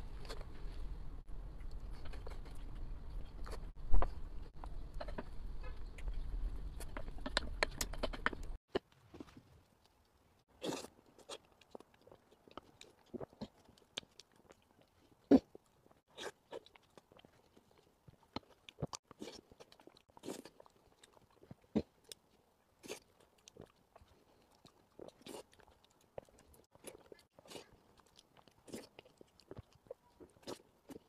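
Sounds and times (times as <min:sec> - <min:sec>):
person chewing wetly: 0:01.6 - 0:31.0.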